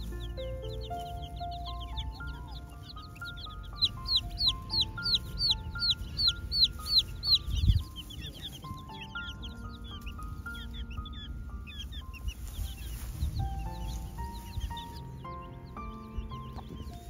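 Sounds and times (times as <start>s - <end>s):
background music: 0.0s - 17.0s
chicks peeping: 0.0s - 17.0s.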